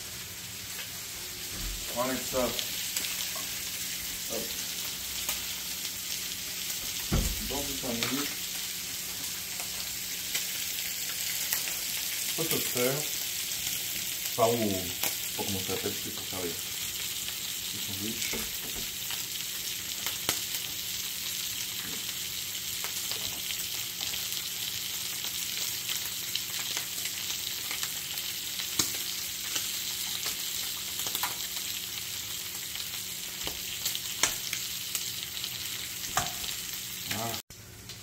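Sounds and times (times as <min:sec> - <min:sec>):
bacon sizzling in a pan: 0:00.0 - 0:38.0.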